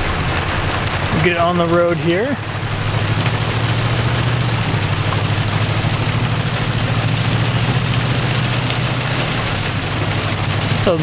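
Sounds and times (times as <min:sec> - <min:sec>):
engine and tyres droning: 0:00.0 - 0:11.0
rain on car roof: 0:00.0 - 0:11.0.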